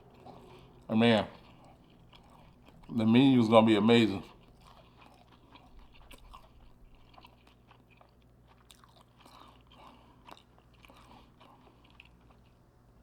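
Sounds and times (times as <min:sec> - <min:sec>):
man chewing: 0:00.0 - 0:13.0.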